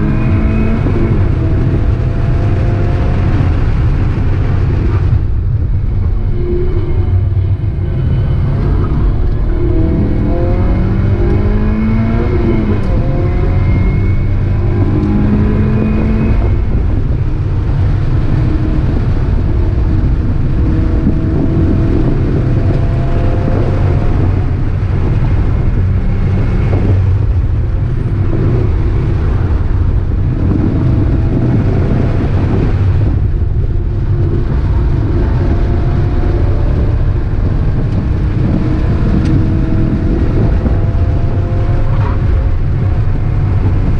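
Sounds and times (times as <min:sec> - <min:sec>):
car engine accelerating hard: 0:00.0 - 0:43.9
low drone: 0:00.0 - 0:43.9
road noise: 0:00.0 - 0:43.9.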